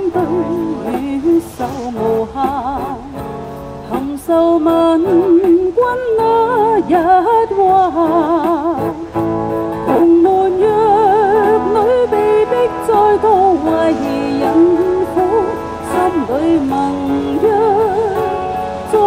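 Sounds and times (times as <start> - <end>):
instrumental accompaniment: 0.0 - 19.0
person singing with vibrato: 0.0 - 19.0.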